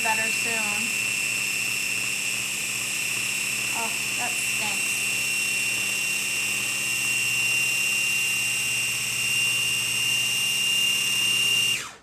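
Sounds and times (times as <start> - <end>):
food chopper motor whining: 0.0 - 12.0.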